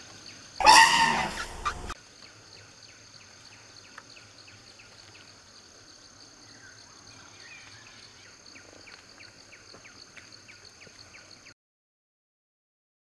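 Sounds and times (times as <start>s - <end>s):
insects trilling: 0.0s - 11.5s.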